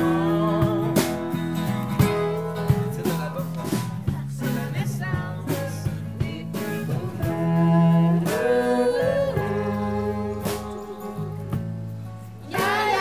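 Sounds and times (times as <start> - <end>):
drum strikes: 0.0 - 11.9, 12.5 - 13.0
acoustic guitar: 0.0 - 13.0
electric bass: 0.0 - 13.0.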